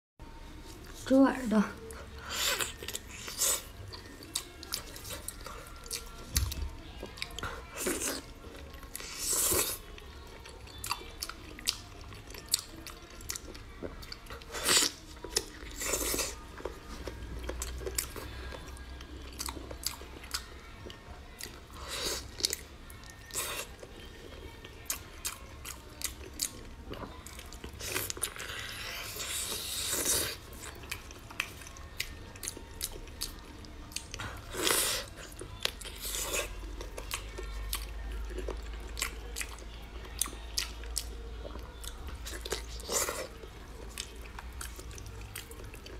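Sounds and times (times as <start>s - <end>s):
chewing and biting: 1.9s - 45.9s.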